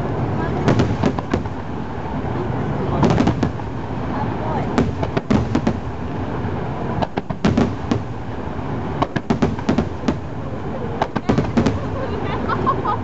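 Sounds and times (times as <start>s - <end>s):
firework bangs and crackles: 0.0s - 13.0s
steady rumble: 0.0s - 13.0s.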